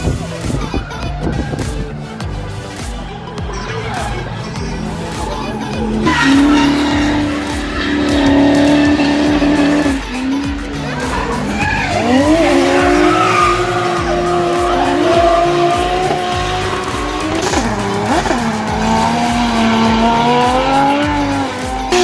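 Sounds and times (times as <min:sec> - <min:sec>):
car engines revving high: 0:01.3 - 0:22.0
tyres screeching: 0:03.4 - 0:22.0.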